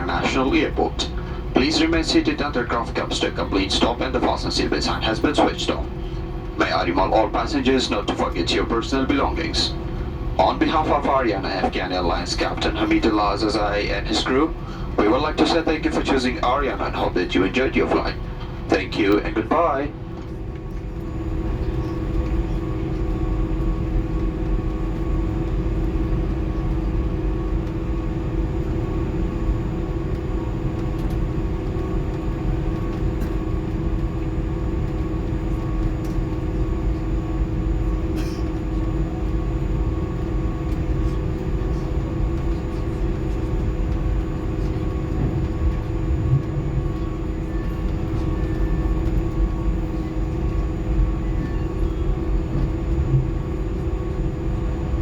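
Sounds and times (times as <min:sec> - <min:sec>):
aircraft cabin rumble: 0:00.0 - 0:55.0
jet engines whining at idle: 0:00.0 - 0:55.0.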